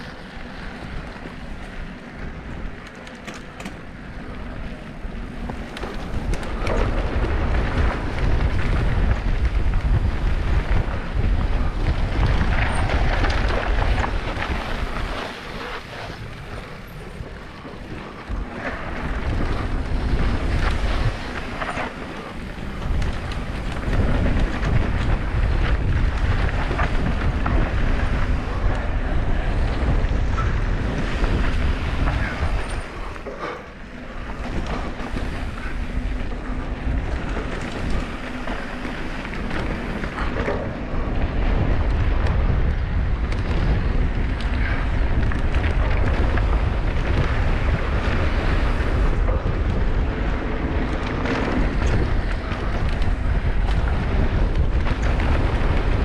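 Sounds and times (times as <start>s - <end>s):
bike rattling over bumps: 0.0s - 56.0s
tyres rolling over trail: 0.0s - 56.0s
wind buffeting microphone: 0.0s - 56.0s.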